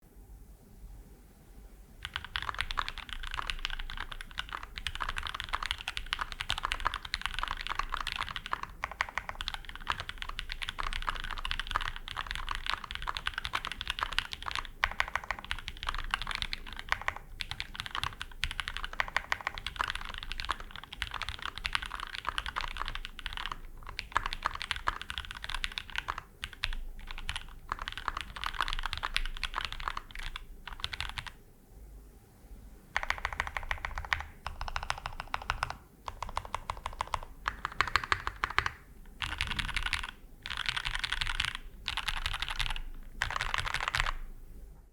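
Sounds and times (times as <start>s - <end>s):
fast mechanical keyboard typing: 2.0s - 31.4s, 33.0s - 44.3s.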